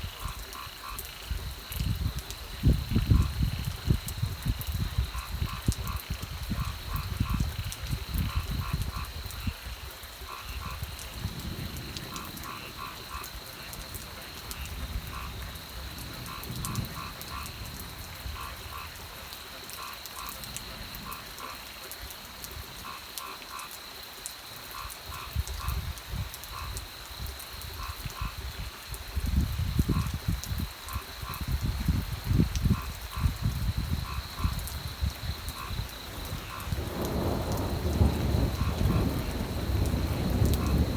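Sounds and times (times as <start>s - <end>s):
frogs calling: 0.0s - 40.9s.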